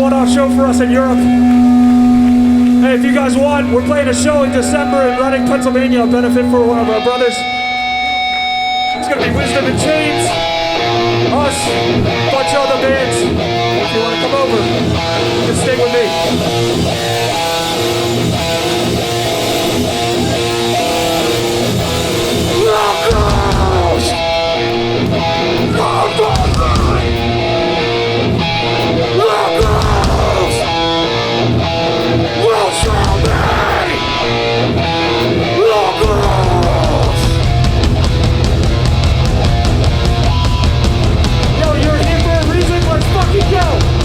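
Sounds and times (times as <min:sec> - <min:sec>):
hardcore band playing live: 0:00.0 - 0:44.0
heavy bass notes: 0:00.0 - 0:44.0
sliding guitar notes: 0:00.0 - 0:44.0.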